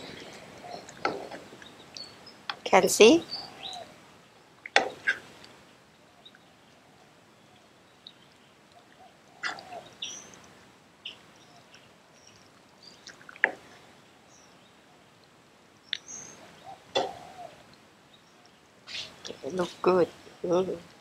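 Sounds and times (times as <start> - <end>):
birds chirping: 0.0 - 15.2, 15.8 - 20.8
faint steady hiss: 0.0 - 21.0.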